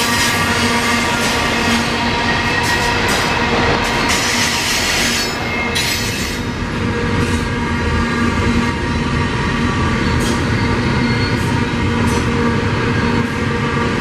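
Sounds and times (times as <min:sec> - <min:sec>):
train wheel squeal: 0:00.0 - 0:14.0
train wheels rumbling on rails: 0:00.0 - 0:14.0.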